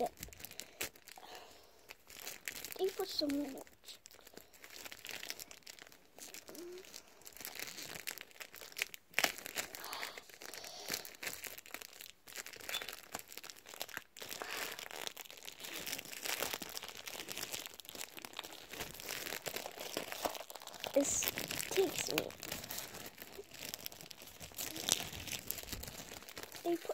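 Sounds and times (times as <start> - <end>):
plastic wrapping crinkling: 0.0 - 26.9.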